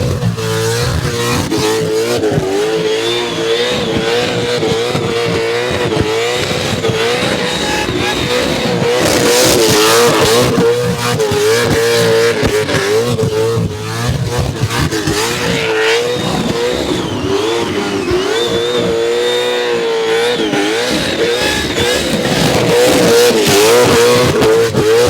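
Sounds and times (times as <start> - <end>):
car engine revving high: 0.0 - 25.0.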